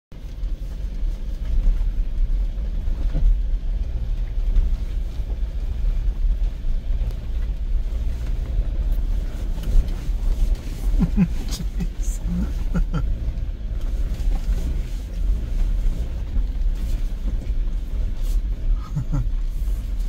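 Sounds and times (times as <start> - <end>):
tyres on gravel track: 0.1 - 20.0
vehicle engine rumble: 0.1 - 20.0.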